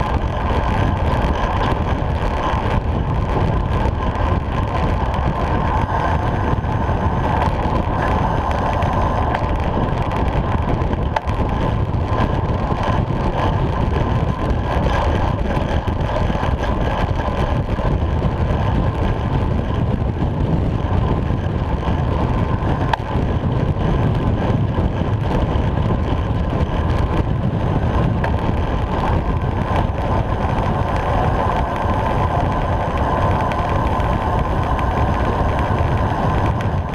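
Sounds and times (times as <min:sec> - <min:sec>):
bicycle tyre noise on tarmac: 0:00.0 - 0:36.9
loud wind rush on microphone: 0:00.0 - 0:36.9.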